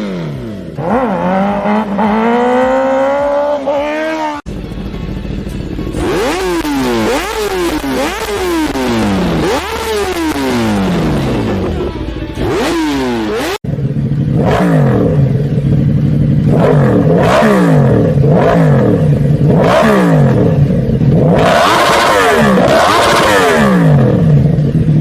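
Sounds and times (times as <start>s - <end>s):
motorcycle engines revving: 0.0s - 25.0s
motorcycle idling: 0.0s - 25.0s.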